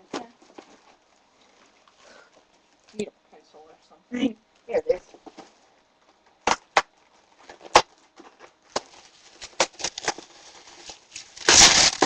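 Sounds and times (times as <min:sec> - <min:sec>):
rustling and scraping packaging: 0:00.0 - 0:02.9, 0:05.0 - 0:12.0.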